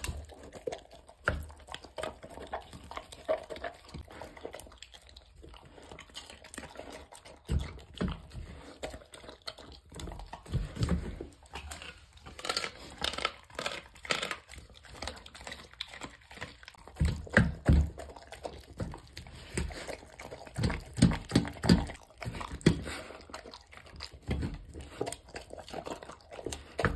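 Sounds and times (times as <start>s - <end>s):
dog chewing and crunching food: 0.0s - 26.9s.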